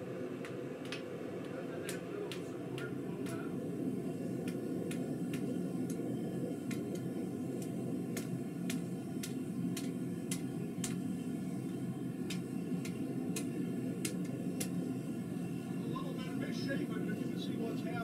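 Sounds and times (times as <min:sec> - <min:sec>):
gas forge roaring: 0:00.0 - 0:18.0.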